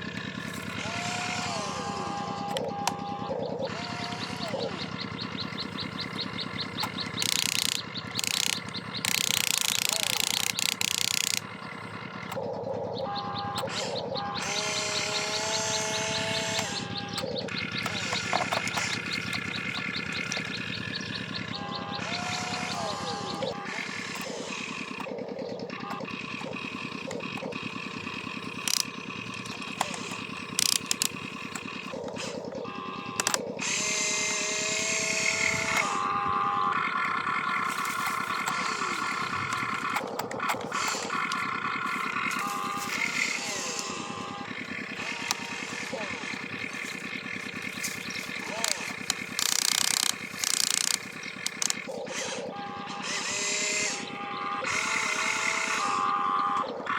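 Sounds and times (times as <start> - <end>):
fast mechanical ticking: 0.0 - 56.9
small electric motors whirring: 0.0 - 56.9
sharp clicks: 0.1 - 12.8, 13.4 - 56.9.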